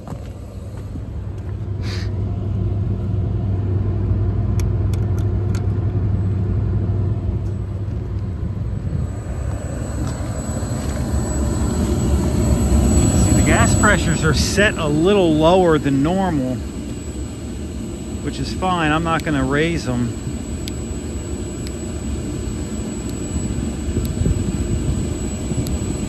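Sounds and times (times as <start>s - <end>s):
heating unit low rumble: 0.0s - 26.0s.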